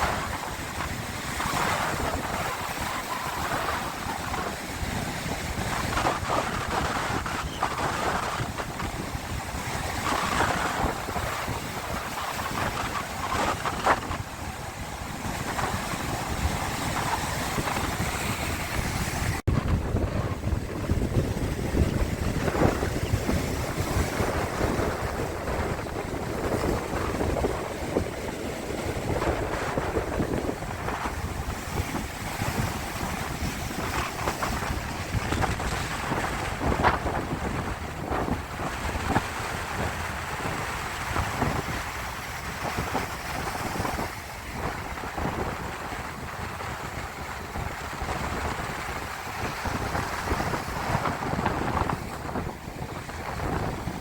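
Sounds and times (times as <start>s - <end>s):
sea waves breaking: 0.0s - 54.0s
wind buffeting microphone: 0.0s - 54.0s.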